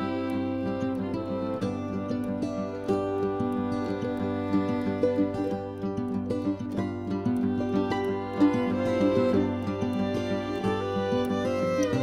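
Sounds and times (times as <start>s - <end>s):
gentle plucked string music: 0.0s - 12.0s.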